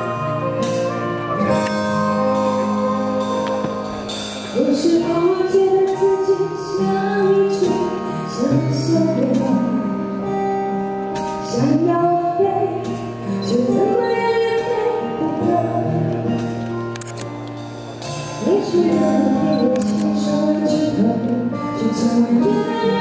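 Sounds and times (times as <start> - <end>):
woman singing into microphone: 0.0 - 10.3, 11.2 - 16.6, 18.3 - 23.0
live band playing: 0.0 - 23.0.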